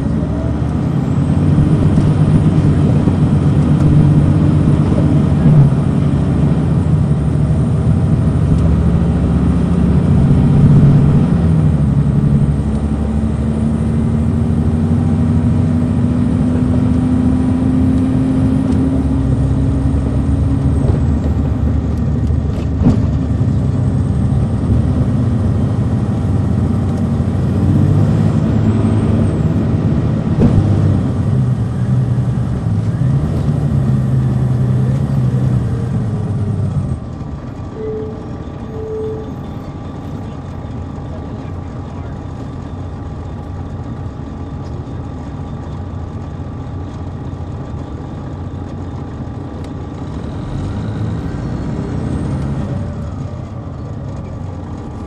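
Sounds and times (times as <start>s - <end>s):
bus diesel engine pulling: 0.0s - 55.0s.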